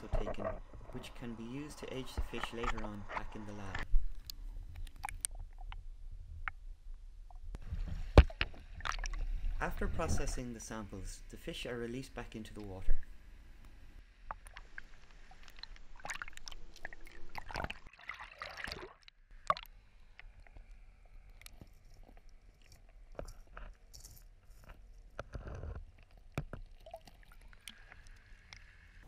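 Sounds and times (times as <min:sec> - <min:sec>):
underwater sloshing and gurgling: 0:00.0 - 0:11.0, 0:12.6 - 0:23.7, 0:25.6 - 0:29.0.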